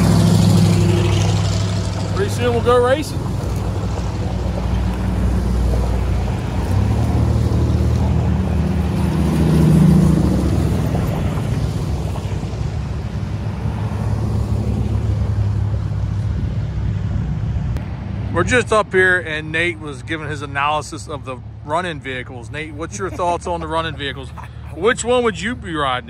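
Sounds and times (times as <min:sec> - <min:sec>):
vehicles driving on dirt track: 0:00.0 - 0:26.0.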